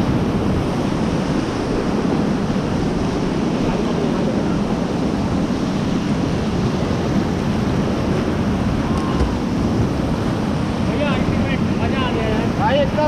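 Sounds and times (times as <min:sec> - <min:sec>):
river rapids rushing: 0:00.0 - 0:13.0
wind buffeting microphone: 0:00.0 - 0:13.0.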